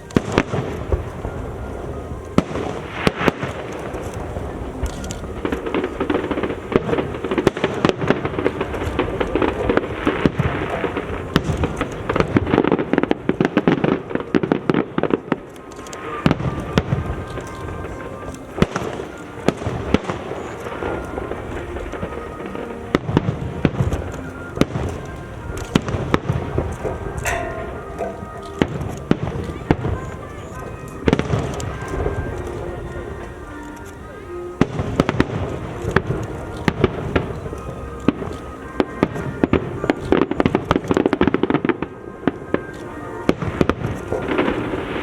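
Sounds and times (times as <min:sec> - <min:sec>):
fireworks bursting and crackling: 0:00.0 - 0:45.0
music playing: 0:00.0 - 0:45.0.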